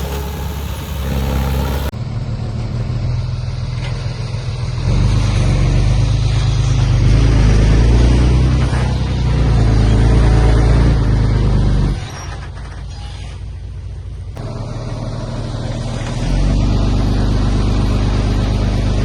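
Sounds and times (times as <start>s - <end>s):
diesel engine running: 0.0s - 12.5s, 13.8s - 19.0s.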